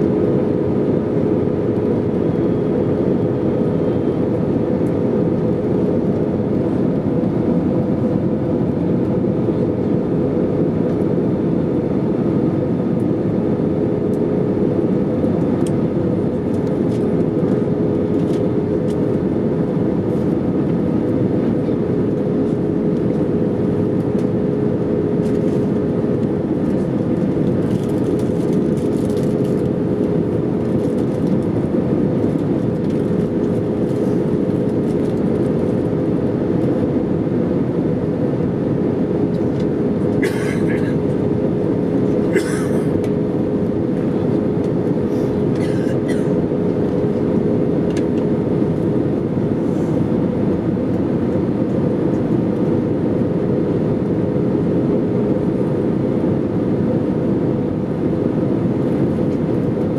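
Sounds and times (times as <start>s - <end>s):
jet engines and airflow rushing: 0.0s - 59.9s.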